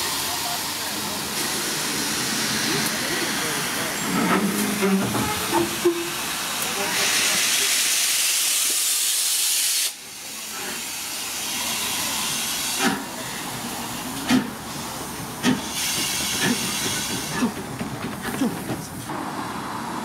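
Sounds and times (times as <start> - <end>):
steam hissing: 0.0 - 17.6.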